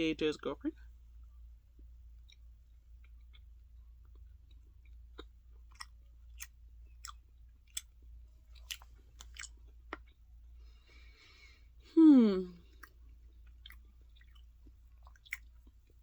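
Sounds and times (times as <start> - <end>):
person chewing candy: 1.8 - 11.1, 12.5 - 16.0.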